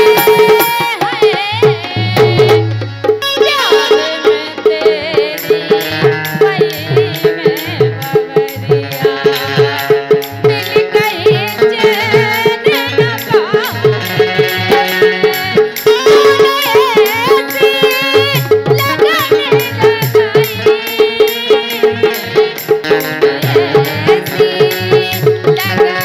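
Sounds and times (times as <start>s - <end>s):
fast drum beat: 0.0s - 4.0s, 4.7s - 26.0s
harmonium: 0.0s - 26.0s
jingling percussion: 0.0s - 26.0s
woman singing: 0.0s - 26.0s.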